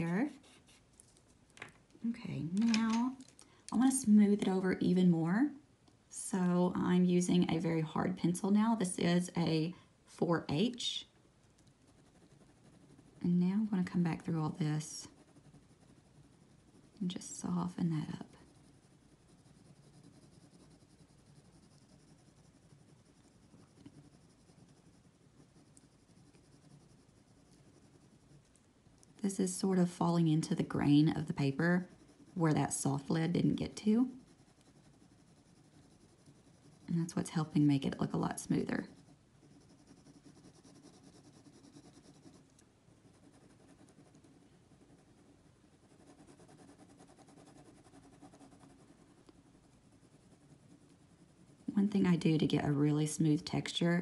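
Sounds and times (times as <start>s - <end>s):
pencil scratching on paper: 0.0s - 1.2s, 6.6s - 9.7s, 11.8s - 53.9s.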